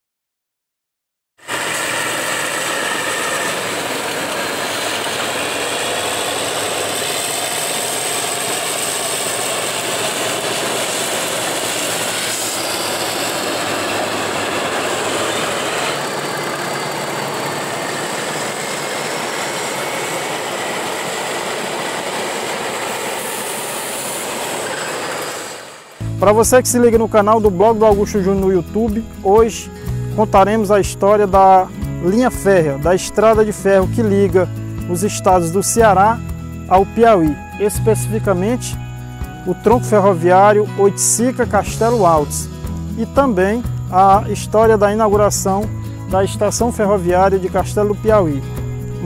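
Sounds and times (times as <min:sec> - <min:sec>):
train running on track: 0:01.4 - 0:49.0.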